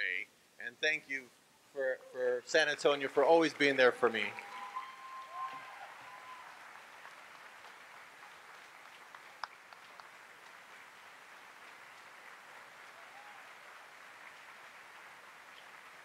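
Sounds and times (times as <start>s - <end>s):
audience applauding: 2.8s - 16.0s.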